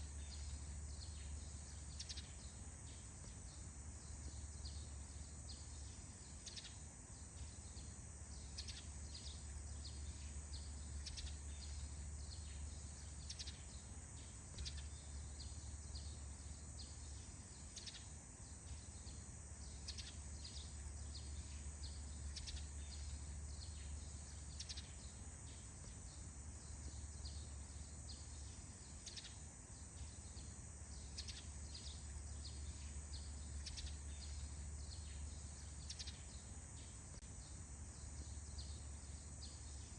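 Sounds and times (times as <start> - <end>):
high insect-like hiss: 0.0 - 39.9
small birds chirping: 0.0 - 39.9.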